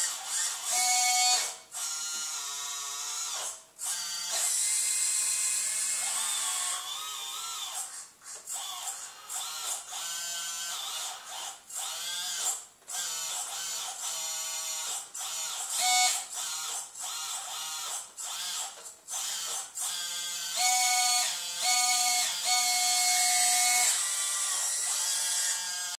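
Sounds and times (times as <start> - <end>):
small electric motors whining: 0.0 - 25.9.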